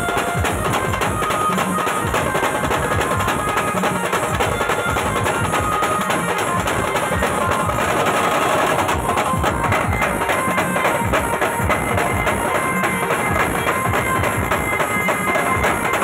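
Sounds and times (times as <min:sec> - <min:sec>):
dhol drums beating fast: 0:00.0 - 0:16.0.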